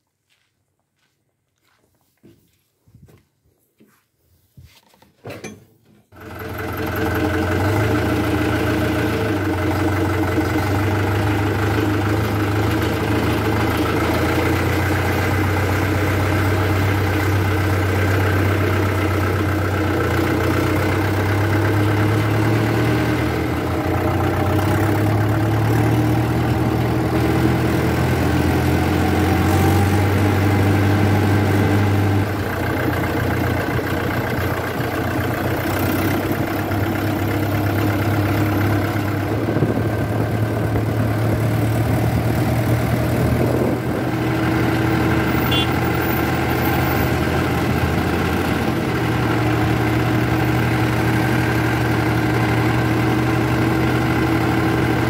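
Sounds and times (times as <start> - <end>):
tractor diesel engine running: 6.1 - 55.0.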